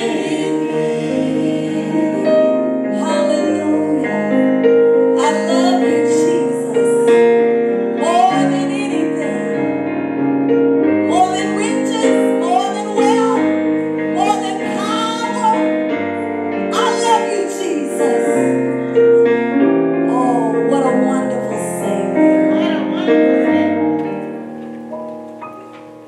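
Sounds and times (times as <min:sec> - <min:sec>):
keyboard holding long chords: 0:00.0 - 0:26.0.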